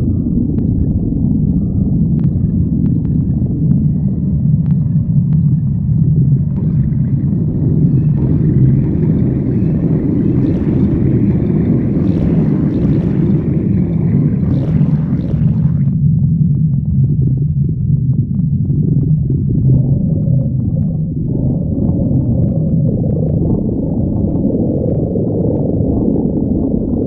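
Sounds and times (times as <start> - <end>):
stomach growling: 0.0 - 27.0.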